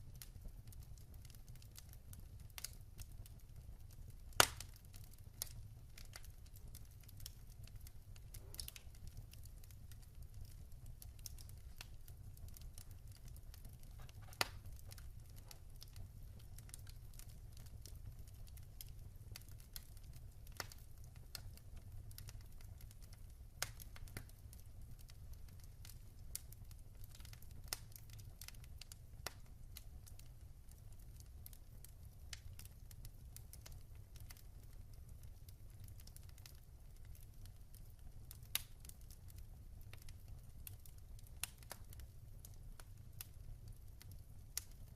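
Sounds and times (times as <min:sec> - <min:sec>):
fire low rumble: 0:00.0 - 0:44.9
wood fire crackling and popping: 0:00.0 - 0:44.9.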